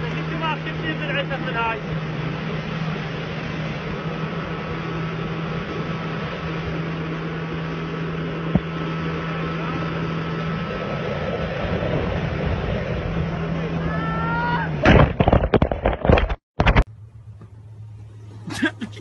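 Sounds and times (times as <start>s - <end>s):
rush of wind and water: 0.0s - 16.8s
motorboat engine running: 0.0s - 19.0s.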